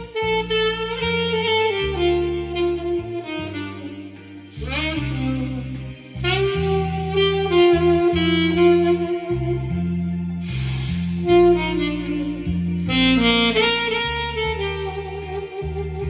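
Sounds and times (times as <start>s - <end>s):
musical accompaniment: 0.0s - 16.0s
saxophone playing slow melody: 0.0s - 16.0s.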